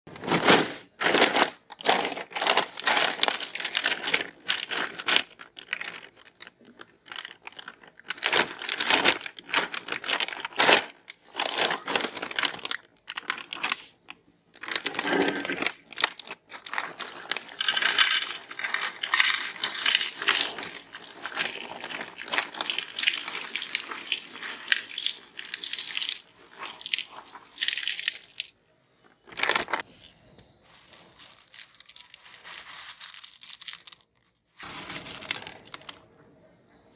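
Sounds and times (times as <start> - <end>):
cereal crunching and crackling: 0.1 - 14.0, 14.6 - 28.6, 29.2 - 30.0, 30.6 - 36.0.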